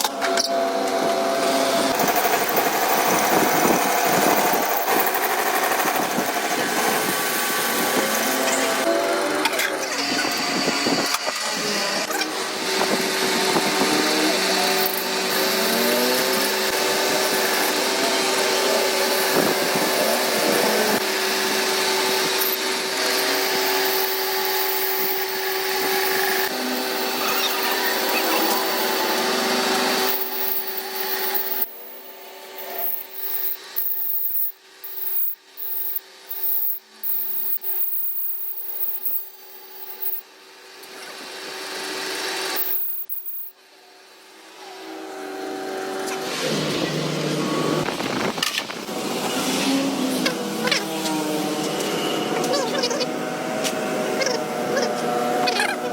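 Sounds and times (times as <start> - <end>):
power tool running under load: 0.0 - 55.9.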